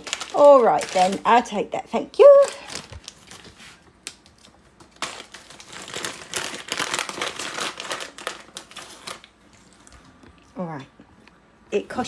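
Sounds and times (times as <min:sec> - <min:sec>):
snack packet crinkling: 0:00.0 - 0:01.6, 0:02.3 - 0:10.4.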